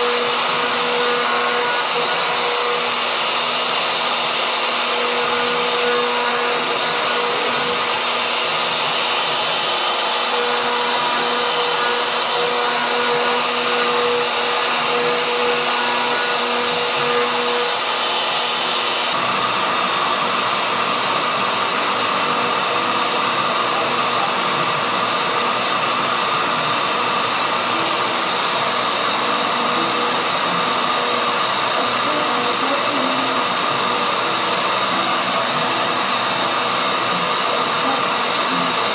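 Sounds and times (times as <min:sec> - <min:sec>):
router spindle carving wood: 0:00.0 - 0:38.9.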